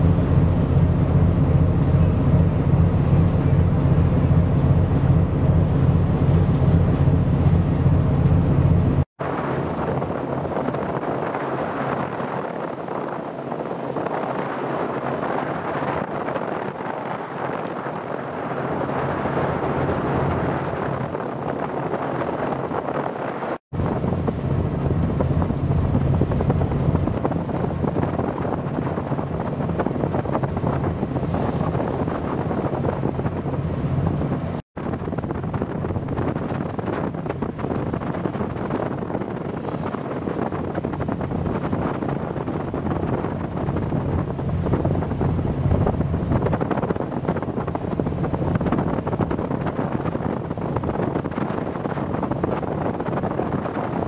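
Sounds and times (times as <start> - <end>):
open sea: 0.0 - 54.0
strong wind buffeting microphone: 0.0 - 54.0.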